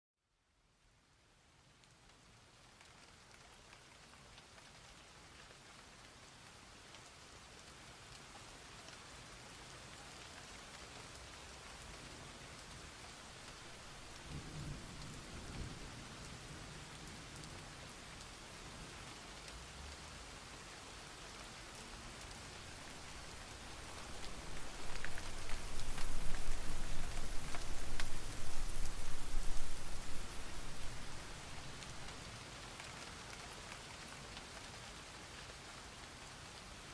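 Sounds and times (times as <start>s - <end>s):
rain on water: 0.5s - 36.9s.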